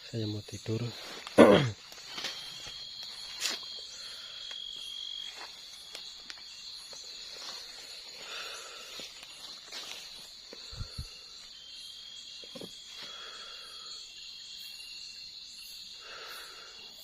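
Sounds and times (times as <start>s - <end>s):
high-pitched insects chirring: 0.0s - 17.0s
lower insect tone: 0.0s - 17.0s.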